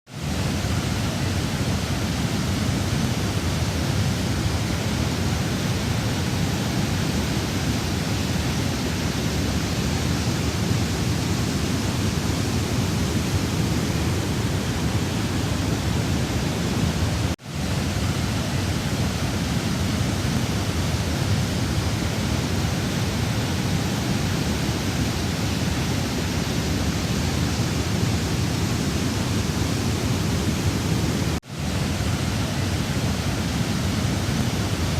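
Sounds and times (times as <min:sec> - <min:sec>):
floodwater roaring in river: 0:00.1 - 0:34.9.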